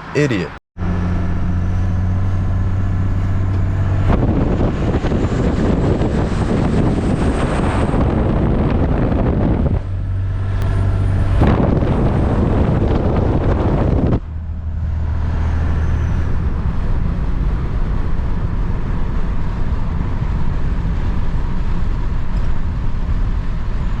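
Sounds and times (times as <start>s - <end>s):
low engine drone: 0.0s - 24.0s
pickup truck engine and road noise: 0.0s - 24.0s.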